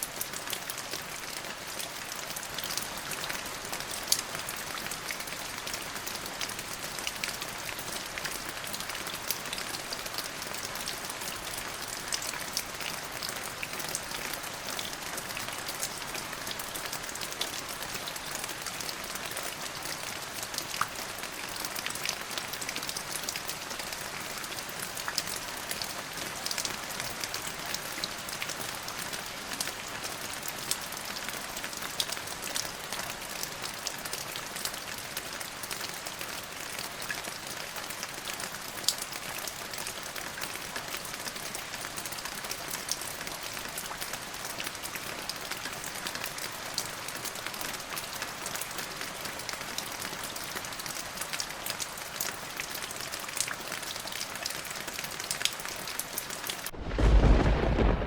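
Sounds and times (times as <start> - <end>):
rain on hard surface: 0.0 - 58.0.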